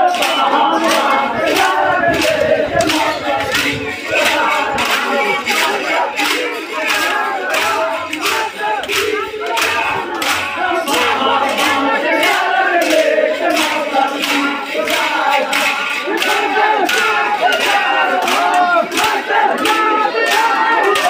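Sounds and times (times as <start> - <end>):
crowd chanting and shouting: 0.0 - 21.0.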